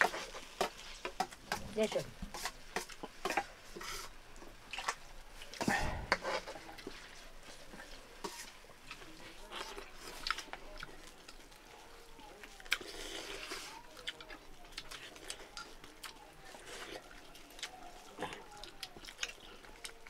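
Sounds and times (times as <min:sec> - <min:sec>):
chewing: 0:00.0 - 0:20.0.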